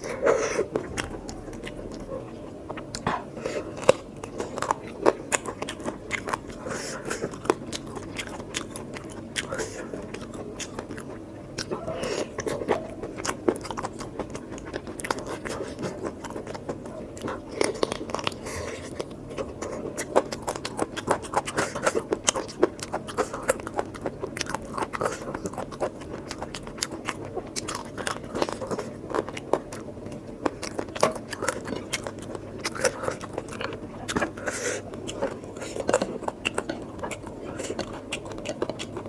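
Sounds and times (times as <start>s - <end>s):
person chewing with wet smacks: 0.0s - 39.0s.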